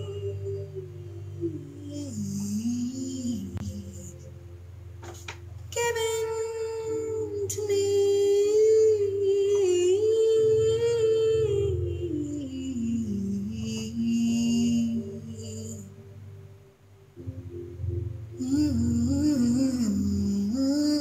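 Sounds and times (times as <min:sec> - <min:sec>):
woman singing long note: 0:00.0 - 0:04.2, 0:05.7 - 0:16.2, 0:18.4 - 0:21.0
soft sustained chords: 0:00.0 - 0:21.0.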